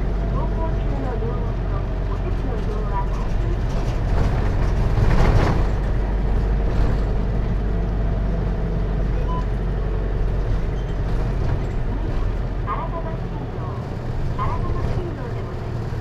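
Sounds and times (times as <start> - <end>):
diesel engine running: 0.0 - 16.0
road noise: 0.0 - 16.0.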